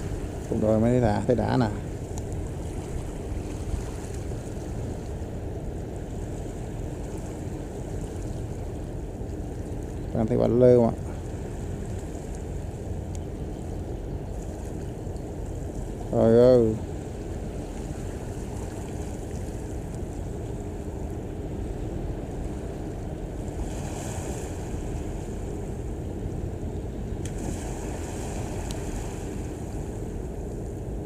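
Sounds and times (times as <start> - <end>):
faint steady hum: 0.0 - 31.0
moving water: 0.0 - 31.0
ship engines rumbling: 0.0 - 31.0
wind buffeting microphone: 0.0 - 31.0.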